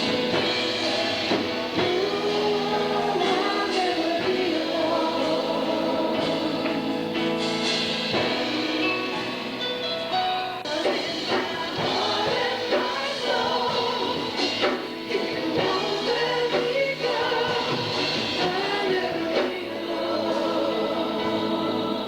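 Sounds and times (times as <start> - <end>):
choir singing gospel song: 0.0 - 9.8, 10.4 - 22.0
band with drums: 0.0 - 22.0.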